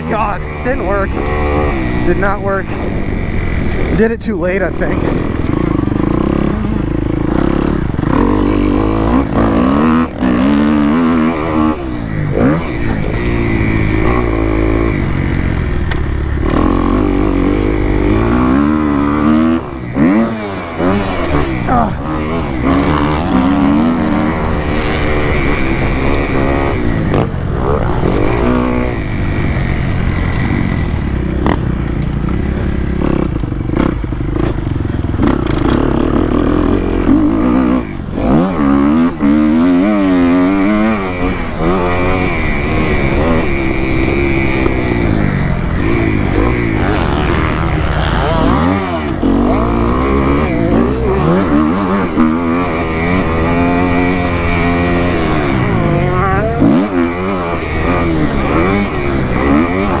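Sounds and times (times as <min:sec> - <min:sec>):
motocross bike engine revving: 0:00.0 - 1:00.0.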